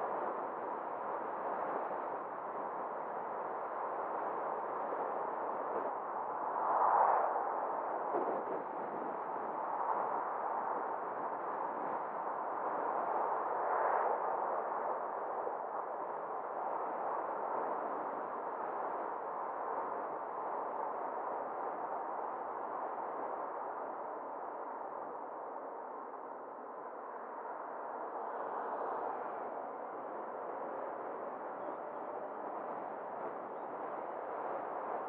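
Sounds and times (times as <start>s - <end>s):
car road and wind noise: 0.0s - 35.0s.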